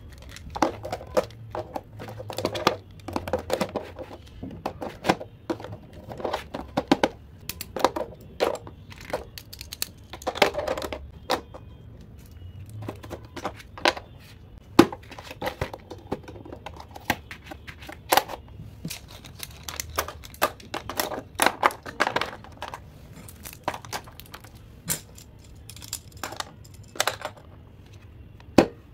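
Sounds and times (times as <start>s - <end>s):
pencils clicking in plastic box: 0.0s - 11.5s, 15.0s - 27.5s.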